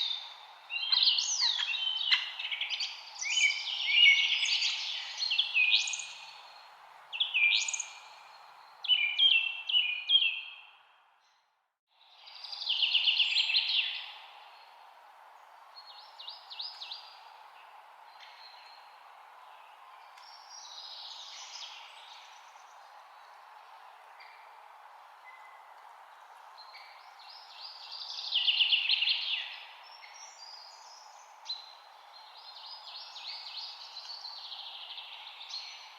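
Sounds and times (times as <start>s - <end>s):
background hiss: 0.0s - 9.8s, 12.0s - 35.9s
songbirds chirping: 0.0s - 35.9s.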